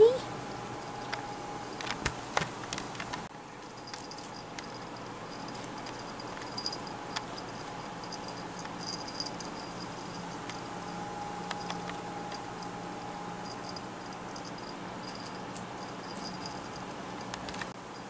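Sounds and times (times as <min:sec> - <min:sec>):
room noise: 0:00.0 - 0:18.0.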